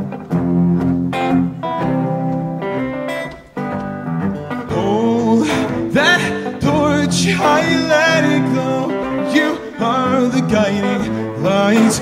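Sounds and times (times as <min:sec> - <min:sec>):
electric guitar: 0:00.0 - 0:12.0.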